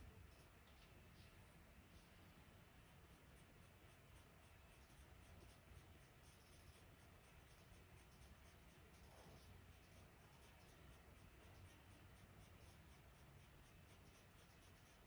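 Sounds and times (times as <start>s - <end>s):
pencil scratching on paper: 1.9s - 15.0s.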